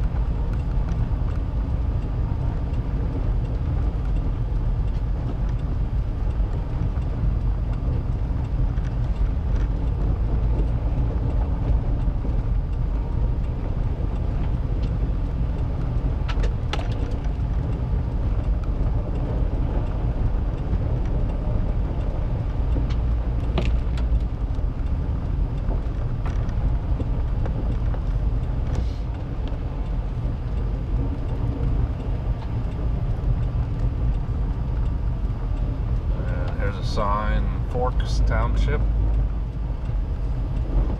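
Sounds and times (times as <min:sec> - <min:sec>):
car engine and tyres on wet road: 0:00.0 - 0:40.9.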